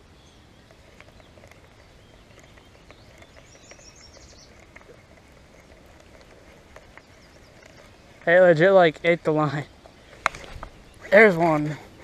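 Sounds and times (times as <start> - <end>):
faint reel clicks: 0.6 - 12.0.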